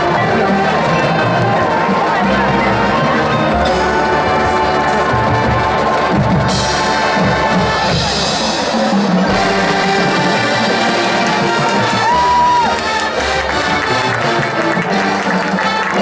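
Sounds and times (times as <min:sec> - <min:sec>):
marching band playing funk: 0:00.0 - 0:16.0.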